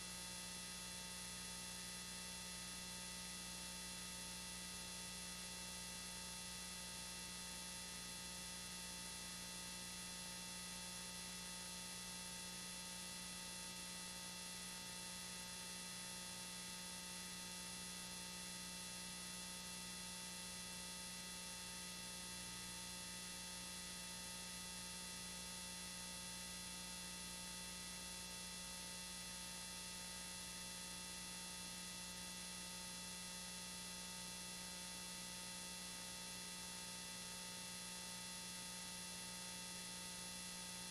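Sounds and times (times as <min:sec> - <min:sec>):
electrical hum with whine: 0:00.0 - 0:40.9.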